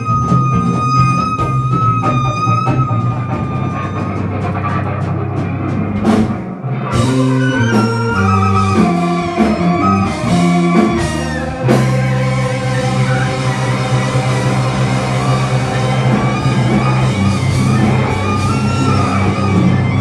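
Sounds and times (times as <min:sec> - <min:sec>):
rock band playing: 0:00.0 - 0:20.0
stepping bass line: 0:00.0 - 0:20.0.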